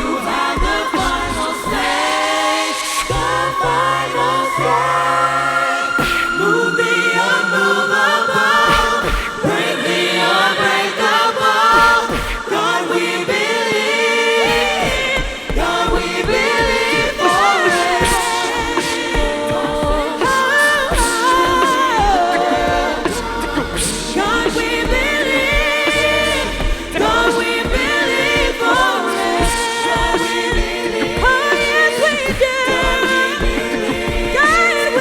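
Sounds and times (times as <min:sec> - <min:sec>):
a cappella group singing: 0:00.0 - 0:35.0.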